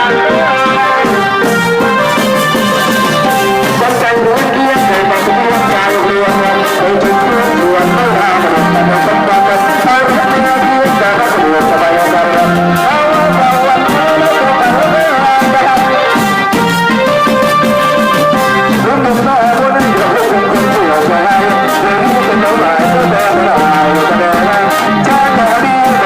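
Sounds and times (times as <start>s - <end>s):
brass band playing: 0.0s - 26.0s
drums and cymbals beat: 0.0s - 26.0s
horns playing melody: 0.0s - 26.0s.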